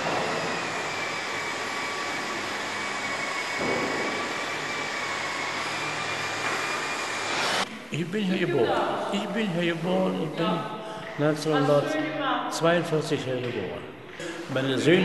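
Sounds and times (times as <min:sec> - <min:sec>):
vacuum cleaner running: 0:00.0 - 0:12.2.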